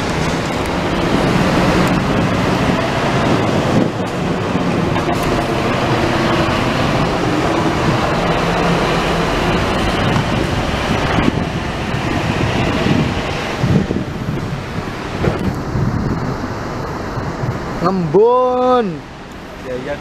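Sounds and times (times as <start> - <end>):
diesel bus engine running: 0.0 - 18.2
wind noise on microphone: 0.0 - 19.6.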